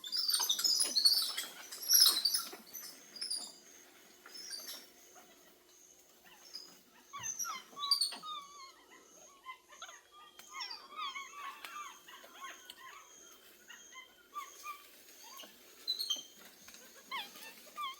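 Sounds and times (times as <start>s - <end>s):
monkeys squeaking and whistling: 0.0s - 3.6s, 4.3s - 5.3s, 6.2s - 17.9s.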